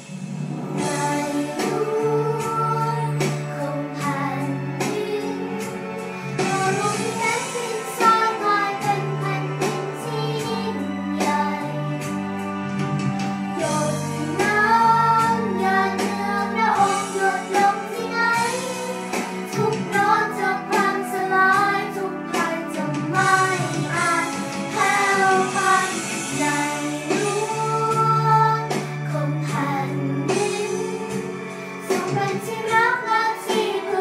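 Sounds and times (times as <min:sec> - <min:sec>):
person singing over backing track: 0:00.5 - 0:34.0.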